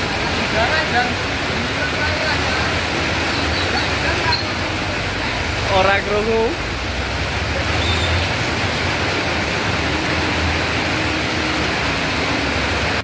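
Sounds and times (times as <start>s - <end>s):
heavy rain on a street: 0.0s - 13.0s.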